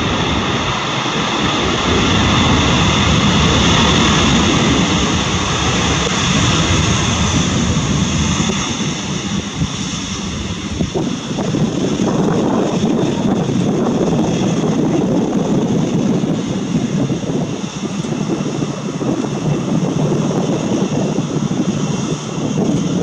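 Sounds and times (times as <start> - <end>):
jet engines rushing with whine: 0.0 - 23.0.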